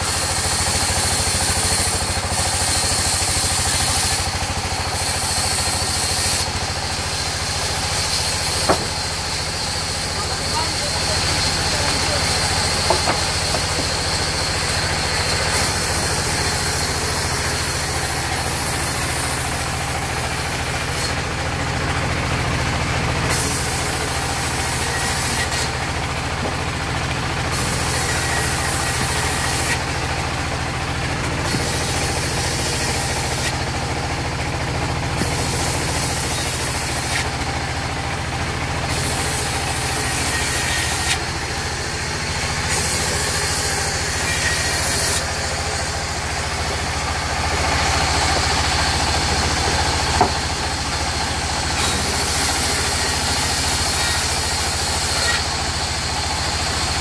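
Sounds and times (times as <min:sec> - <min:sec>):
band saw drive humming: 0:00.0 - 0:21.2, 0:23.3 - 0:55.5
saw blade ripping wood: 0:00.1 - 0:21.3, 0:23.3 - 0:34.1, 0:35.1 - 0:38.2, 0:38.8 - 0:56.0.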